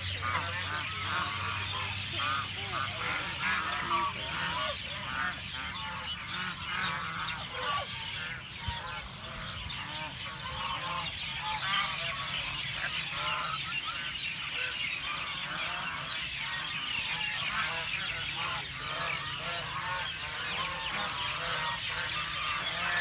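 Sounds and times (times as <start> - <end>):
ducks quacking: 0.0 - 23.0
small birds chirping: 0.0 - 23.0.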